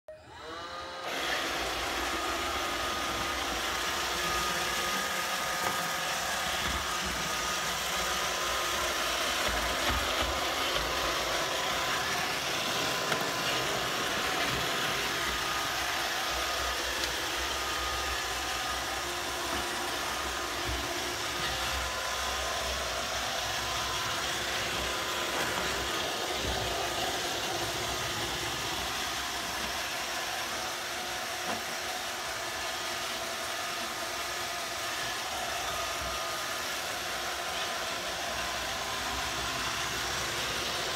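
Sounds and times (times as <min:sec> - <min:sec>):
robot vacuum whirring: 0:00.1 - 0:40.9.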